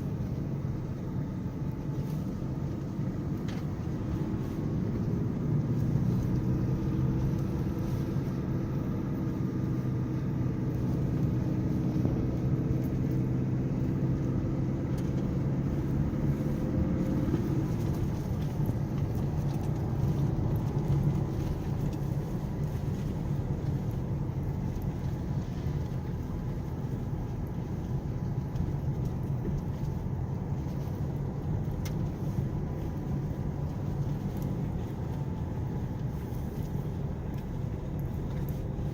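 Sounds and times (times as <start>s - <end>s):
low road rumble: 0.0s - 38.9s
off-road vehicle engine: 0.0s - 38.9s.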